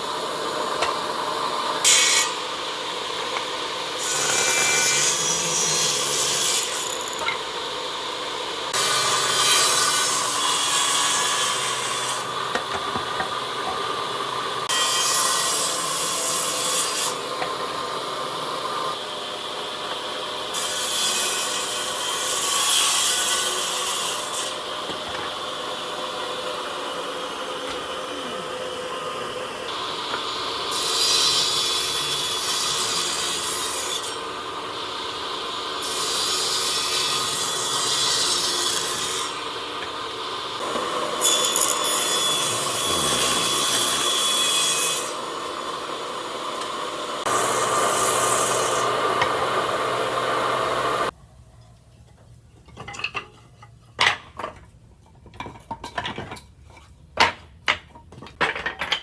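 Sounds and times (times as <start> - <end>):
power tool working wood: 0.0 - 51.1.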